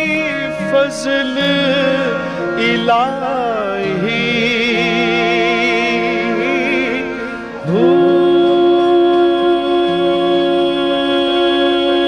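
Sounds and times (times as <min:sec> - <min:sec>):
bowed sarangi: 0:00.0 - 0:12.0
harmonium: 0:00.0 - 0:12.0
man singing devotional song: 0:00.0 - 0:12.0.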